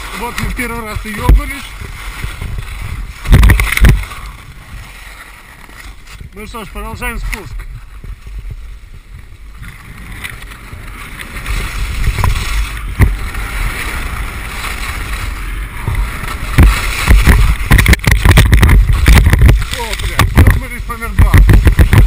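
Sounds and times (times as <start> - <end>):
skis scraping on snow: 0.0 - 22.0
wind on microphone: 0.0 - 22.0.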